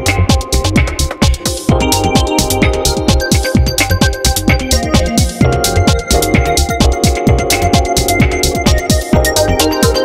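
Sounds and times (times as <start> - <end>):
electronic dance music: 0.0 - 10.0
fast kick drum beat: 0.0 - 10.0.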